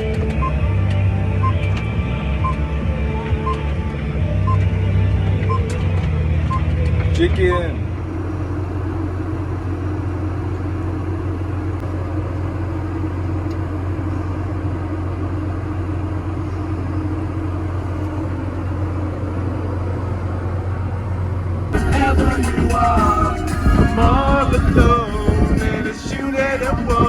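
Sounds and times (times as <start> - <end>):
vehicle engine low drone: 0.0 - 27.0.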